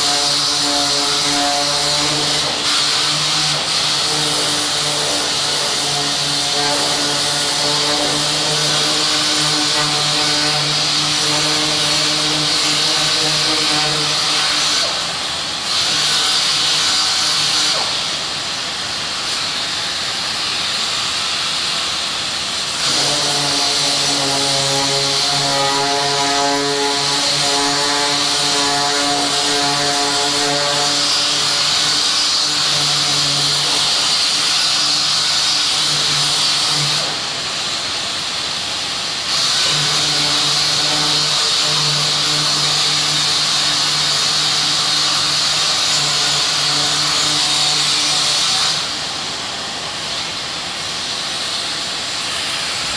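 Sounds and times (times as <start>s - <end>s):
loud sanding hiss: 0.0s - 52.9s.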